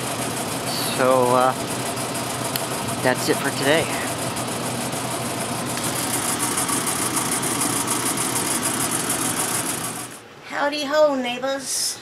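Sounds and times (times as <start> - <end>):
truck engine idling: 0.0 - 10.2.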